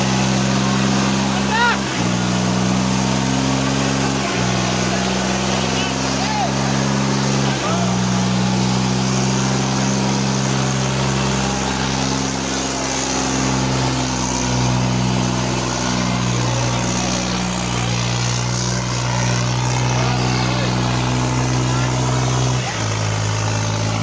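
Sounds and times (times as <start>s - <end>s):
tractor diesel engines under load: 0.0s - 24.0s.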